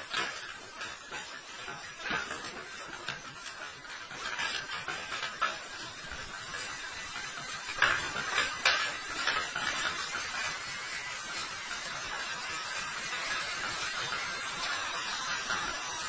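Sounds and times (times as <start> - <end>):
toy truck wheels on concrete: 0.0 - 16.0.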